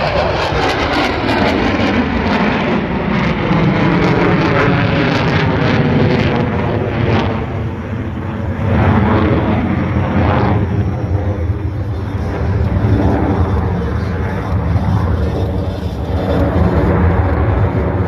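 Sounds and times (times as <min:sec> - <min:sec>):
jet engine rumble: 0:00.0 - 0:18.0.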